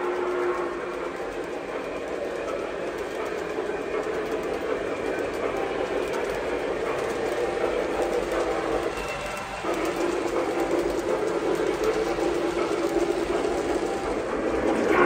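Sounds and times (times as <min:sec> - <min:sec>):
model train rumbling on track: 0:00.0 - 0:15.0.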